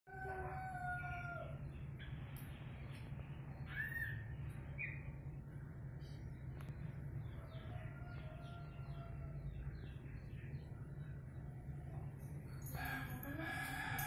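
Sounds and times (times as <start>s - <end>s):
steady low hum: 0.2s - 14.0s
birds calling: 0.5s - 13.8s.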